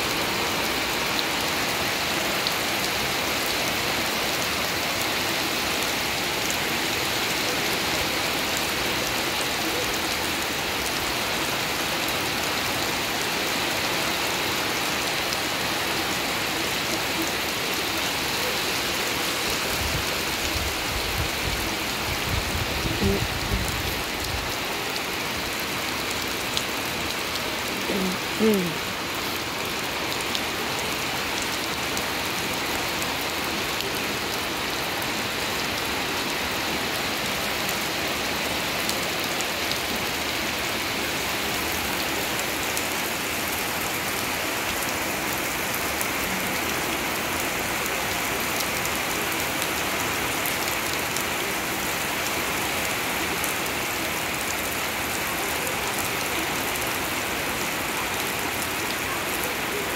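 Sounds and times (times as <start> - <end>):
rain on puddle and grass: 0.0 - 59.9.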